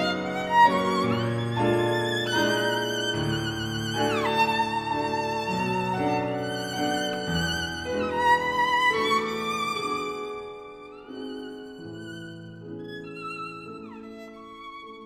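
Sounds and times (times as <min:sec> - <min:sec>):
solo violin slow melody: 0:00.0 - 0:15.0.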